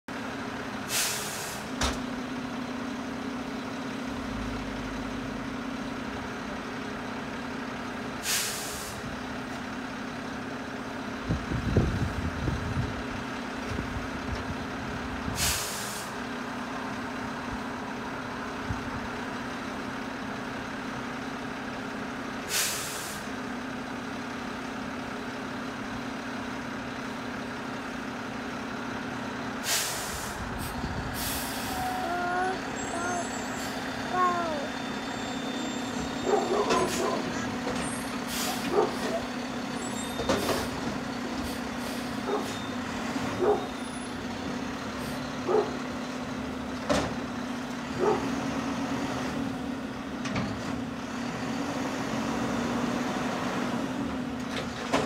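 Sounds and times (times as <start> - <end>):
garbage truck idling: 0.1 - 55.0.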